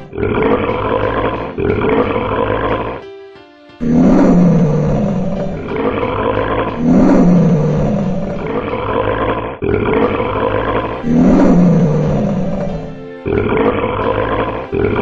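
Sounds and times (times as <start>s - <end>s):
dinosaur growling roars: 0.0s - 3.0s, 3.8s - 15.0s.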